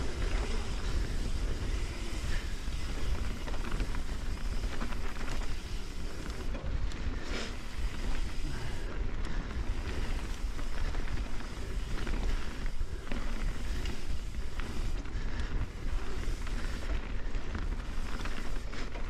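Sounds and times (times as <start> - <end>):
bike rattles and clicks: 0.0 - 19.0
tyres rolling on dirt: 0.0 - 19.0
wind rumbling on microphone: 0.0 - 19.0.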